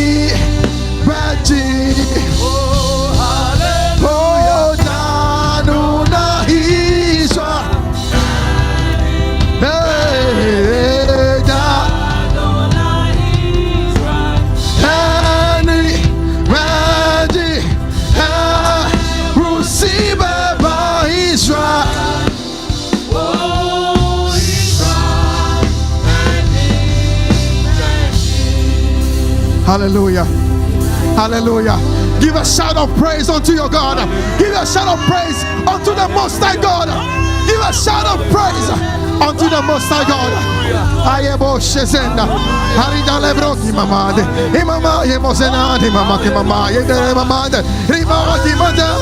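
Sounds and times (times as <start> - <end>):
gospel band with heavy bass: 0.0 - 49.0
instrumental accompaniment: 0.0 - 49.0
lead singer: 0.0 - 49.0.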